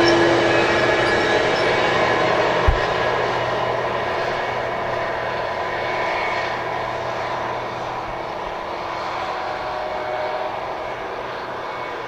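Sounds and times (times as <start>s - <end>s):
train cars rolling on rails: 0.0s - 12.0s.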